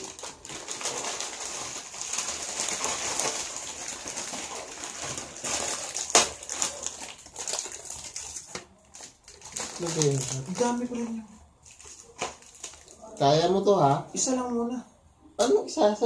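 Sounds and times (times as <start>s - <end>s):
plastic packets crinkling: 0.0s - 13.3s.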